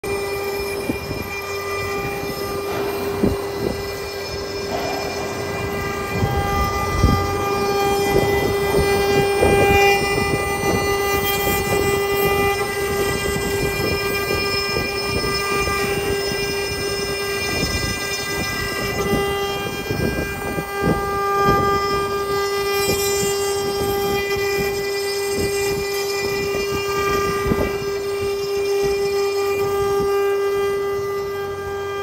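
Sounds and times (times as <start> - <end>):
router spindle whine: 0.0 - 32.0.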